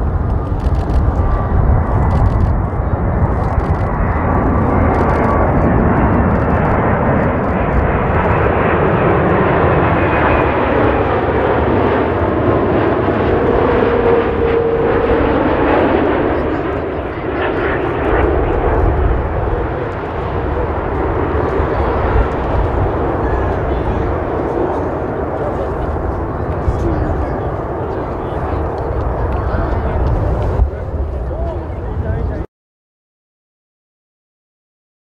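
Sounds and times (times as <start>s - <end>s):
jet engines rushing: 0.0s - 32.5s.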